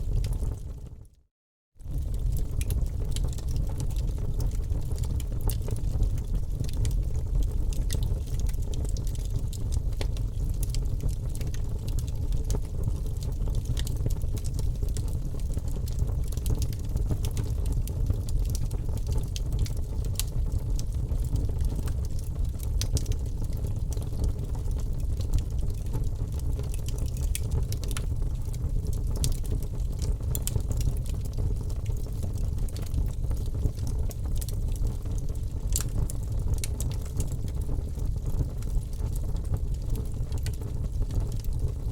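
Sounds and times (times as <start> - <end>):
fire flames rumbling: 0.0 - 1.0, 1.8 - 41.9
fire crackles and pops: 0.0 - 1.1, 1.8 - 41.9.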